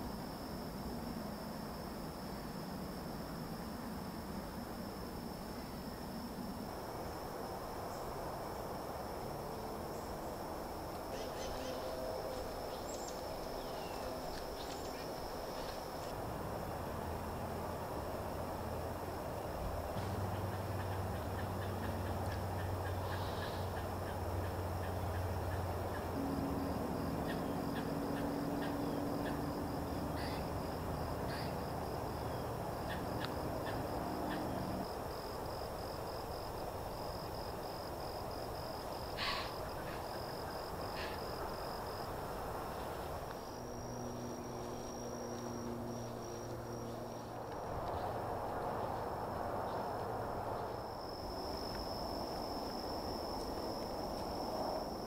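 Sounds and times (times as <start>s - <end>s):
distant engine hum: 0.0s - 55.0s
high insect drone: 0.0s - 55.0s.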